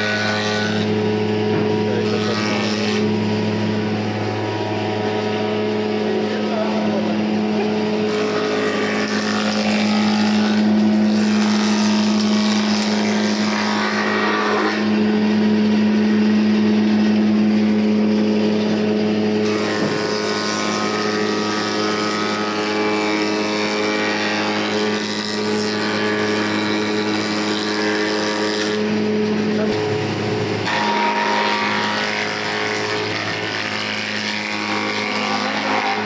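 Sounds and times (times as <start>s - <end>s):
electric planer motor humming: 0.0s - 36.0s
planer cutting wood: 0.0s - 36.0s.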